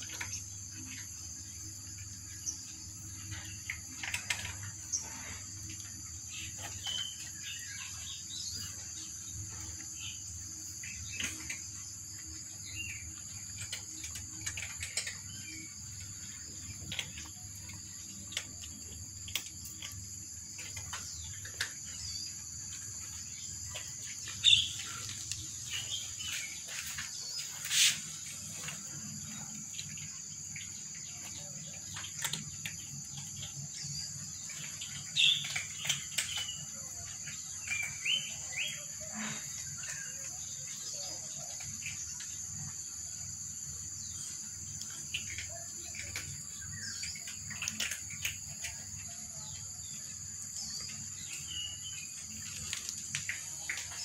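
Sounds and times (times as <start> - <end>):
high insect drone: 0.0 - 54.0
cats crunching dry kibble: 3.0 - 43.0, 44.4 - 54.0.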